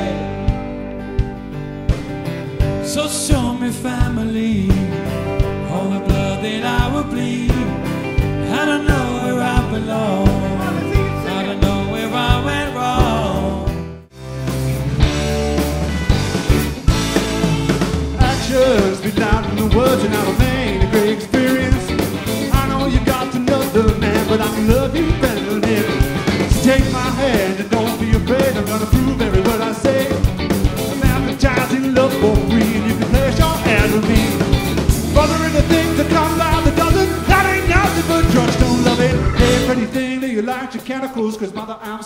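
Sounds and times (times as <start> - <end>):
man singing: 0.0 - 0.8, 2.7 - 14.0, 18.1 - 42.0
rock band playing: 0.0 - 42.0.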